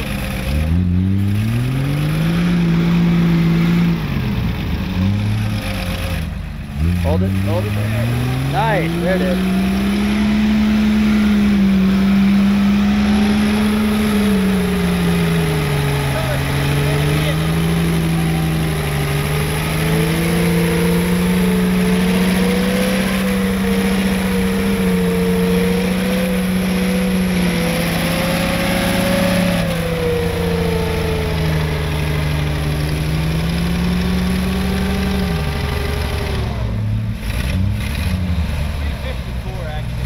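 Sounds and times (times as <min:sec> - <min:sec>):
vehicle engine running under load: 0:00.0 - 0:40.0.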